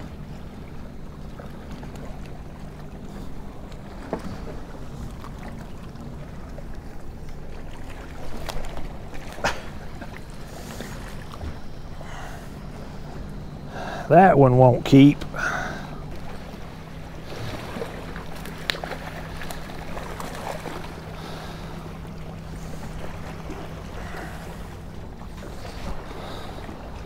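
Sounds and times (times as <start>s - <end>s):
steady low hum: 0.0s - 27.0s
water: 0.0s - 27.0s
wind: 0.0s - 27.0s.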